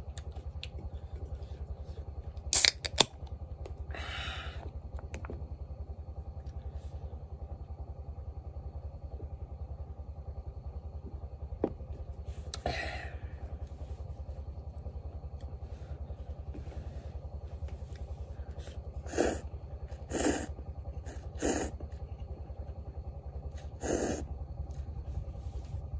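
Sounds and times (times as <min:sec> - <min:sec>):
small engine running: 0:00.0 - 0:25.9.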